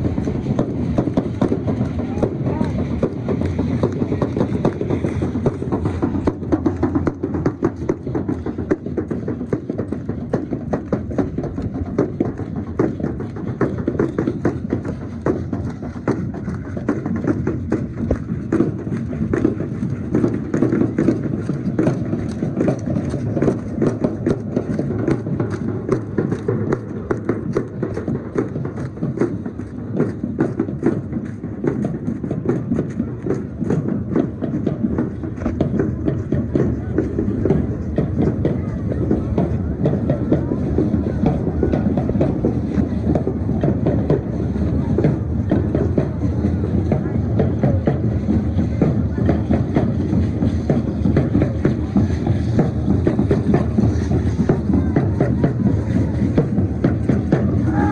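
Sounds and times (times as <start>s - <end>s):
stamping footsteps: 0.0s - 57.9s.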